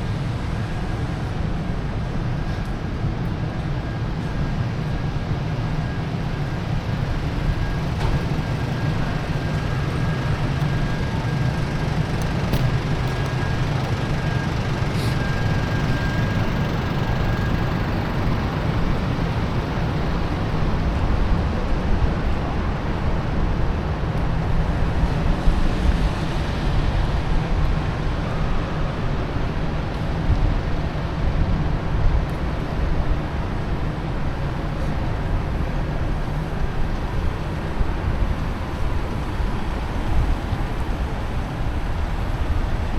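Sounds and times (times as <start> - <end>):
traffic rumble: 0.0 - 42.9.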